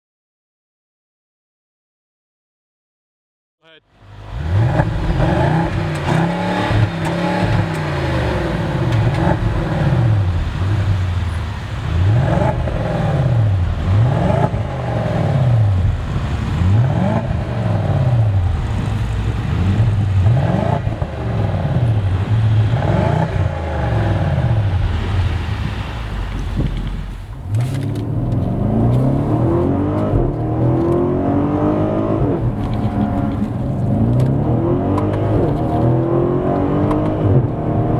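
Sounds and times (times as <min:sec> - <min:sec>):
car engine revving: 0:03.9 - 0:37.9.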